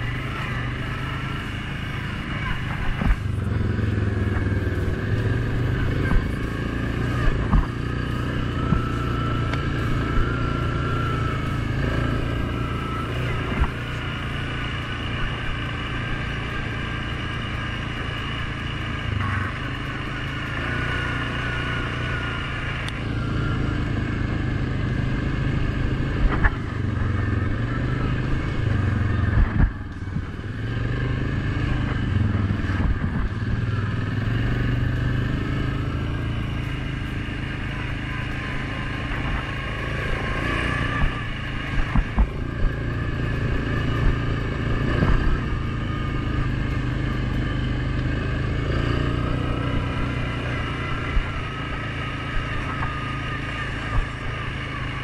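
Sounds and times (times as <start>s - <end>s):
quad bike engine running: 0.0s - 55.0s
wavering high whine: 0.0s - 55.0s.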